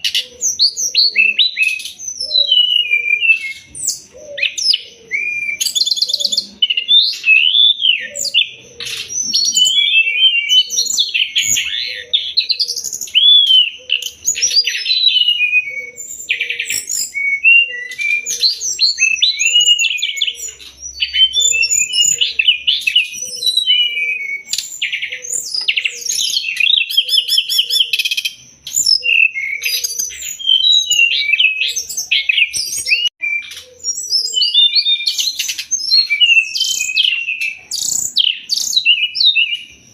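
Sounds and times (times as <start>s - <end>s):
bird song chirps and trills: 0.0s - 39.9s
lower repeating bird call: 0.0s - 39.9s.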